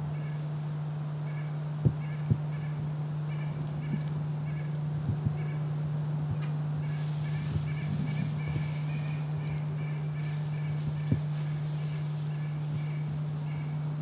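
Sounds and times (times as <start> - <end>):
steady low hum: 0.0 - 14.0
nasal bird calls: 0.1 - 0.5, 1.2 - 5.7, 6.8 - 14.0.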